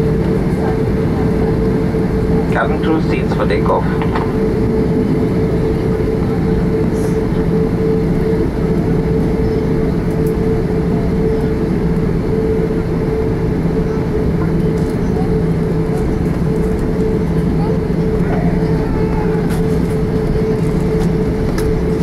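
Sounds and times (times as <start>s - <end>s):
airplane cabin drone: 0.0s - 22.0s.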